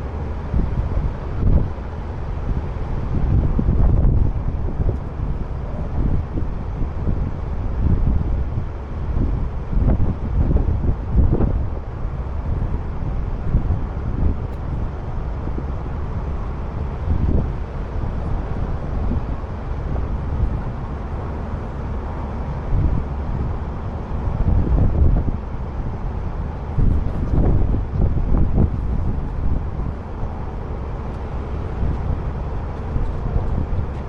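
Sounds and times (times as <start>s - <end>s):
vehicle rumbling: 0.0s - 34.0s
wind buffeting microphone: 0.0s - 34.0s.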